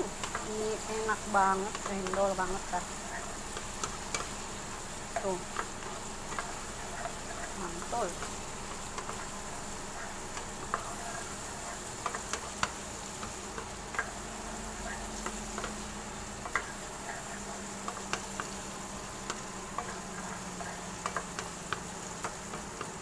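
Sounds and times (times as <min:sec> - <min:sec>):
food sizzling: 0:00.0 - 0:23.0
spatula scraping wok: 0:00.0 - 0:23.0.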